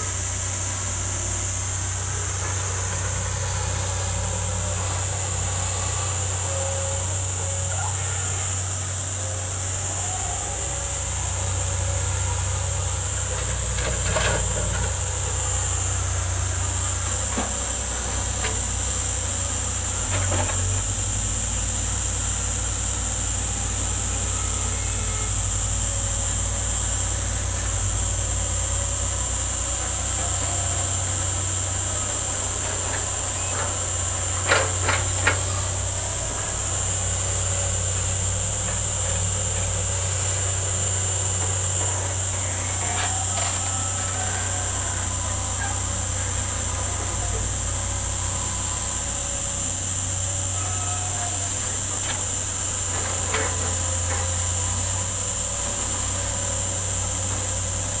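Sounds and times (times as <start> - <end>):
excavator diesel engines droning: 0.0 - 58.0.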